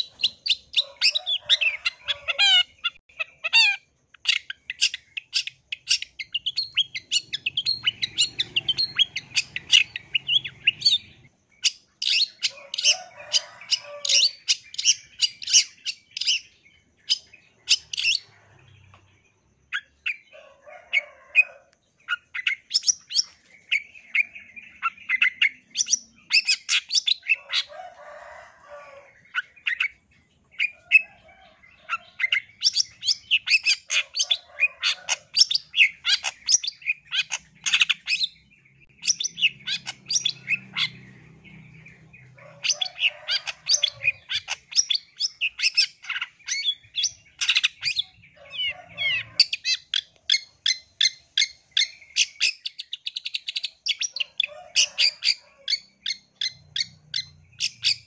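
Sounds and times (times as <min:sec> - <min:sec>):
bird singing harsh chattering notes: 0:00.0 - 0:20.3, 0:22.0 - 0:27.8, 0:29.1 - 0:58.0.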